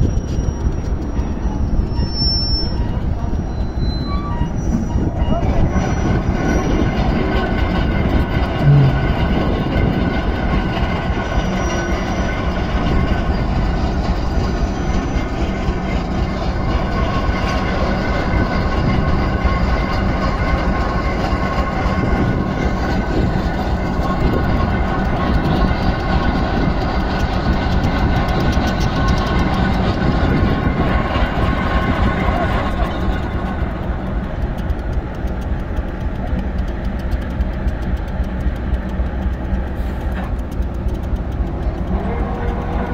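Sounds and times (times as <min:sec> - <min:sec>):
diesel engine droning: 0:06.0 - 0:42.9.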